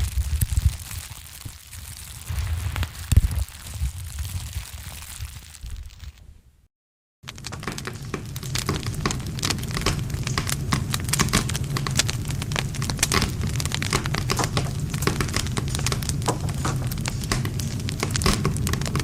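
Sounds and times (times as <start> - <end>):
campfire crackling and popping: 0.0 - 6.3, 7.2 - 19.0
low rumble of flames: 0.0 - 19.0.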